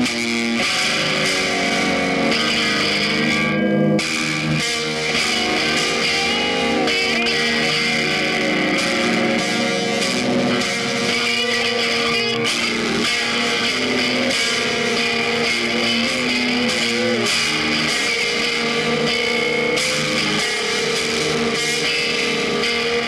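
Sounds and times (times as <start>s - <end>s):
instrumental guitar music: 0.0s - 23.0s.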